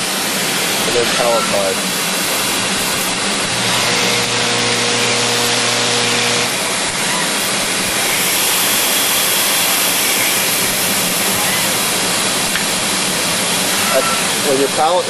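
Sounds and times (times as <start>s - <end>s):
coolant spray hiss: 0.0s - 15.0s
steady machine hum: 0.0s - 15.0s.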